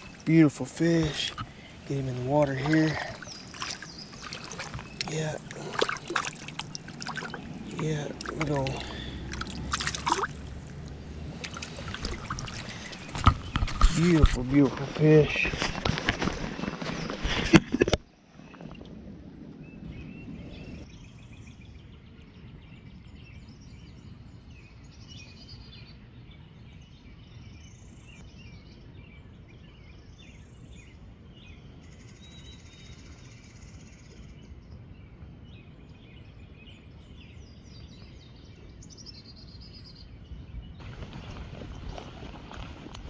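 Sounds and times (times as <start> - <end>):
songbirds singing and calling: 0.0 - 18.8, 19.6 - 43.0.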